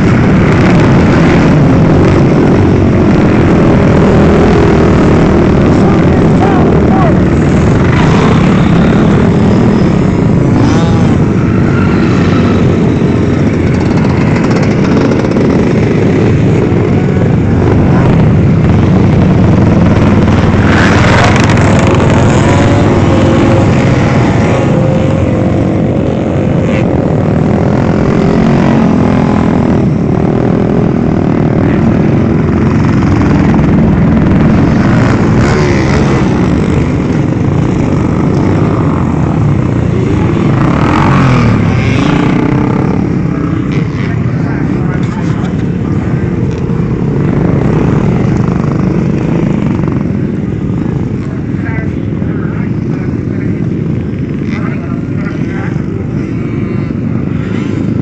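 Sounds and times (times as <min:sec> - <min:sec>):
dirt bikes revving past: 0:00.0 - 0:51.8
rumble of engines: 0:00.0 - 0:58.0.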